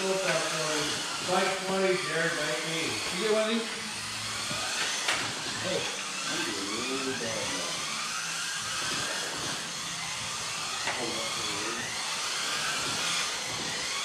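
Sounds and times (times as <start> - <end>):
toy car electric motors whining: 0.0 - 14.0.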